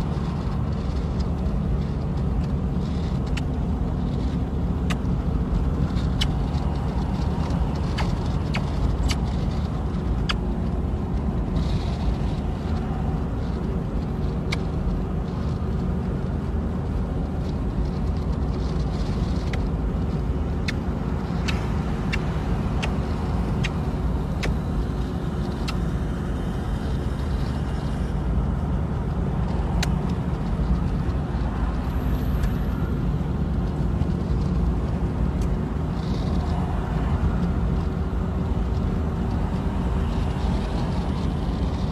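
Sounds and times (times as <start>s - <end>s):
road and engine rumble in car: 0.0s - 41.9s.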